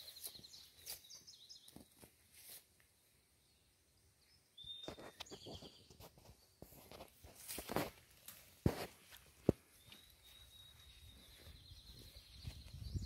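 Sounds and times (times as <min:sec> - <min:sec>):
footsteps on a trail: 0:00.0 - 0:02.8, 0:04.8 - 0:13.0.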